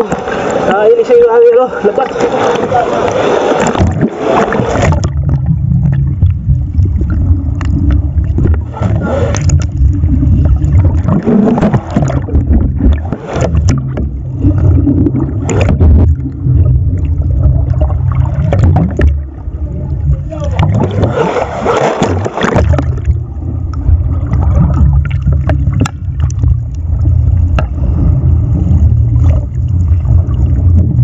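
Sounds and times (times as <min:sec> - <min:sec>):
muffled underwater rumble: 0:00.0 - 0:31.0
water sloshing and gurgling: 0:00.0 - 0:31.0
water splashes: 0:00.0 - 0:31.0.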